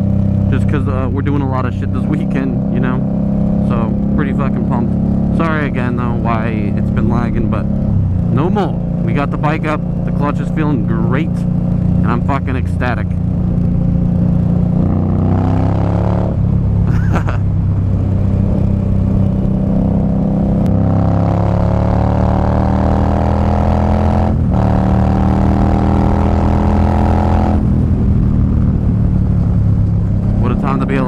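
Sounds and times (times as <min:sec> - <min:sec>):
motorcycle engine shifting gears: 0:00.0 - 0:31.0.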